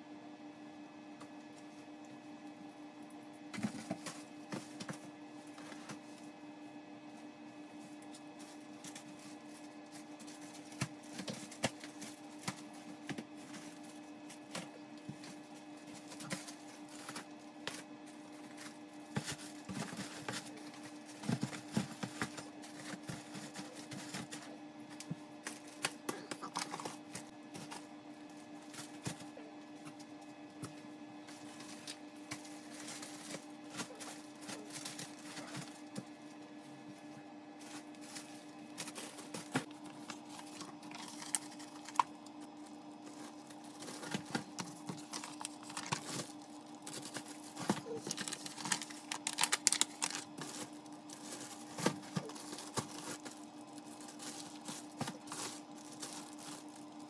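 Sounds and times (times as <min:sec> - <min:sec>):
steady hum: 0:00.0 - 0:57.0
plastic-wrapped products crinkling: 0:07.8 - 0:29.2, 0:31.2 - 0:57.0.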